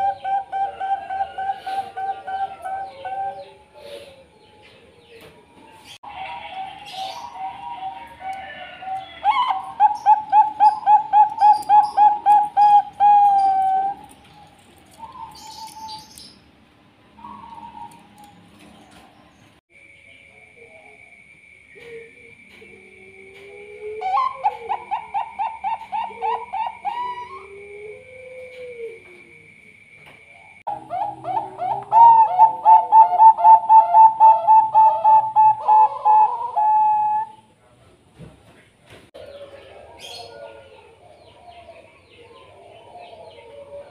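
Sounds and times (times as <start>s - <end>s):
dove cooing: 0.0s - 16.1s, 21.7s - 29.4s, 30.7s - 37.5s, 39.2s - 43.9s.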